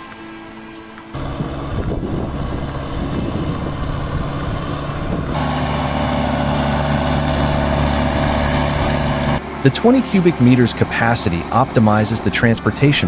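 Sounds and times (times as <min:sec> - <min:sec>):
diesel engine droning: 0:01.0 - 0:13.0.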